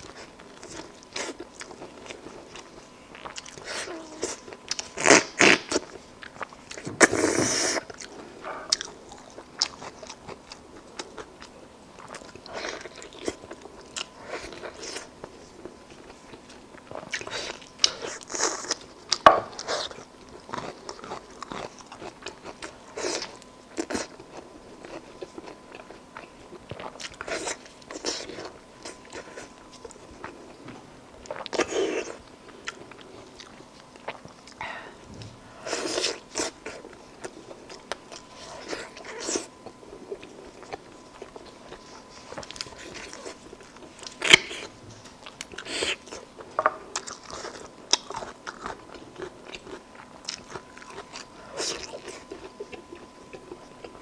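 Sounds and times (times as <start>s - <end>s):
biting and chewing meat: 0.0s - 54.0s.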